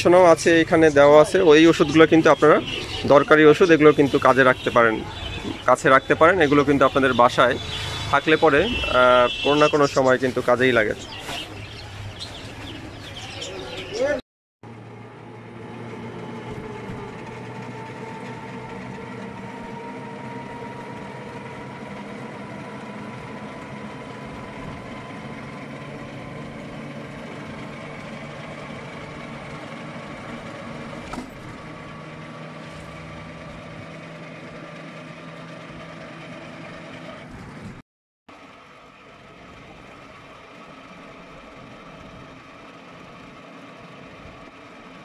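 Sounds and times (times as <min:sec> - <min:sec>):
road noise: 0:00.0 - 0:45.0
vehicle engine cruising: 0:00.0 - 0:45.0.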